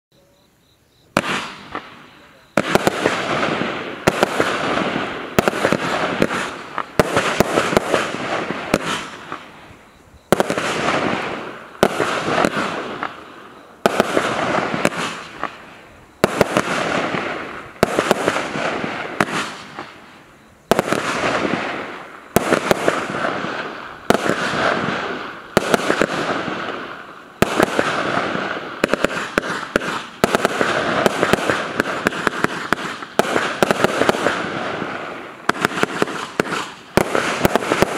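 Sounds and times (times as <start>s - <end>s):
firework crackling: 1.0s - 37.9s
firework battery bangs: 1.1s - 37.9s.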